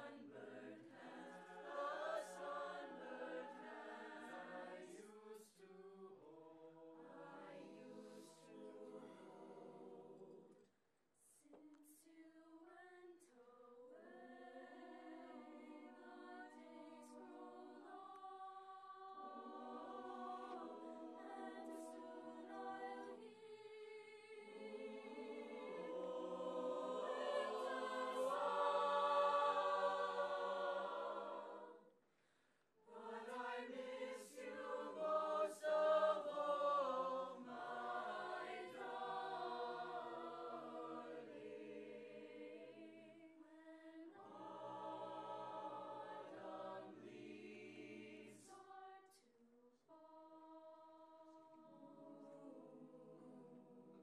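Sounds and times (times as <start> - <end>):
choir singing unaccompanied: 0.0 - 10.6, 12.4 - 31.9, 32.8 - 49.2, 49.9 - 54.0.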